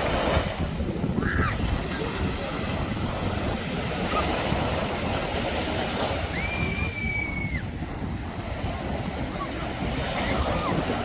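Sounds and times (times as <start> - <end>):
surf: 0.0 - 11.0
wind on microphone: 0.0 - 11.0.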